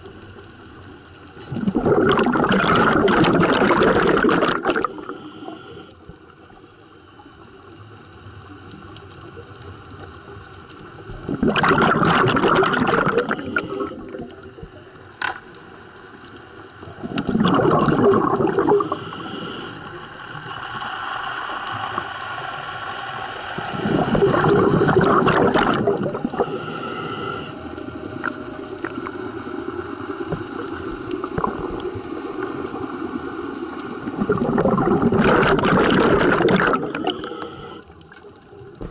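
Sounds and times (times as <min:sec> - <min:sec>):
underwater bubbles gurgling: 0:00.0 - 0:38.9
watery hiss: 0:00.8 - 0:07.8, 0:08.4 - 0:15.0, 0:16.5 - 0:38.1.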